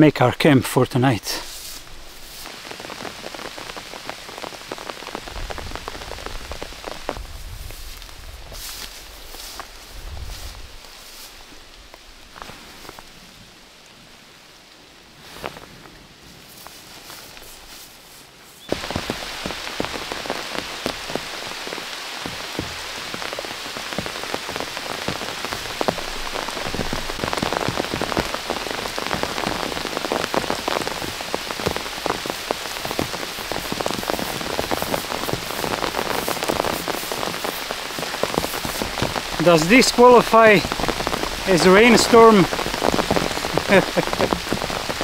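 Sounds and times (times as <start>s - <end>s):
heavy rain: 0.0s - 45.0s.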